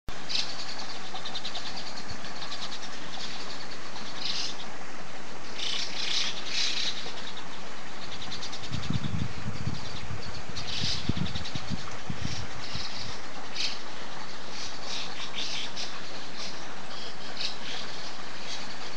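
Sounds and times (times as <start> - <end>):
small birds chirping: 0.1 - 4.8, 5.4 - 18.9
background hiss: 0.1 - 18.9.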